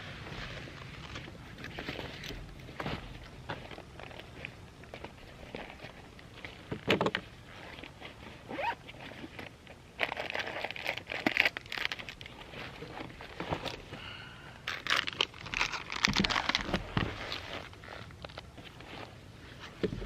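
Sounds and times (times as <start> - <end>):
crinkling and rustling: 0.0 - 20.0.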